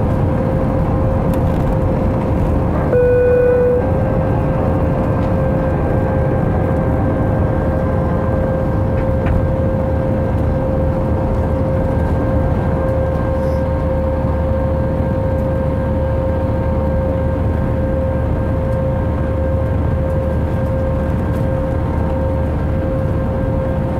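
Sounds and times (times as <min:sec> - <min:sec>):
jet engine rush in cabin: 0:00.0 - 0:23.9
jet engine whine: 0:00.0 - 0:23.9.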